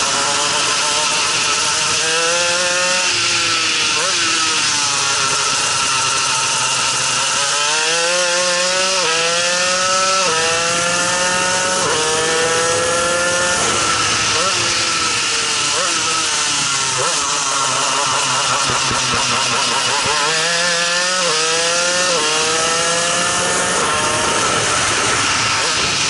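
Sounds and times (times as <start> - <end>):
kart engine at speed: 0.0 - 26.0.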